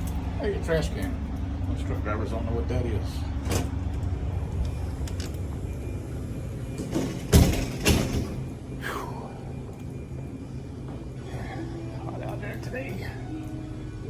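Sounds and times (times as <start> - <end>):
trucks idling: 0.0 - 14.0.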